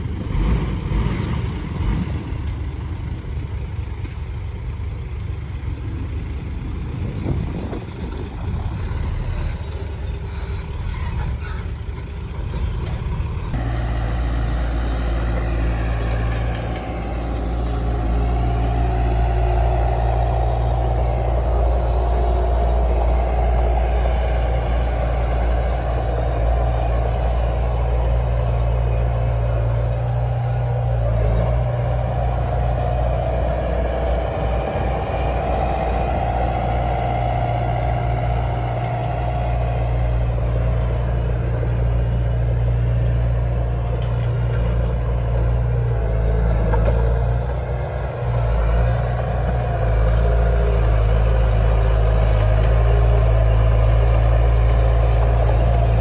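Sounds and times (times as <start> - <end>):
heavy machinery engine hum: 0.0 - 56.0.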